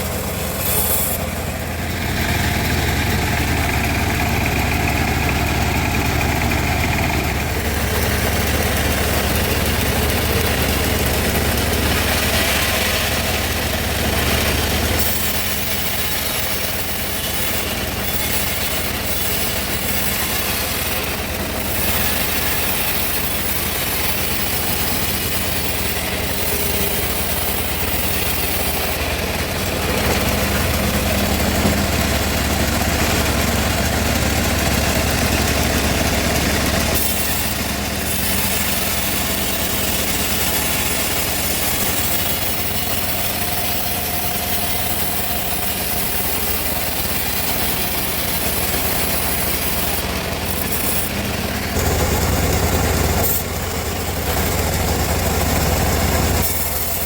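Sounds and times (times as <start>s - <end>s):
bandsaw mill drone: 0.0s - 57.0s
saw blade hissing through wood: 0.0s - 57.0s.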